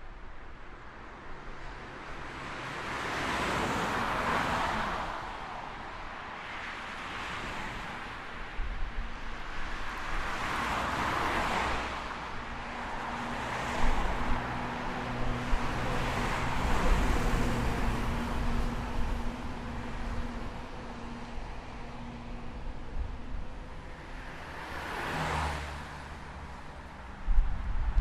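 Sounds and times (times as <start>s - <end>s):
cars passing with tyre hiss: 0.5s - 28.0s.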